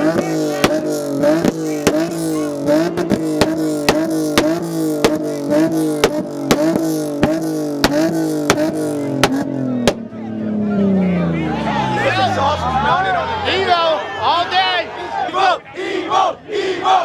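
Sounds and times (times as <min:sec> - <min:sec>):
car engine on launch limiter: 0:00.0 - 0:14.2.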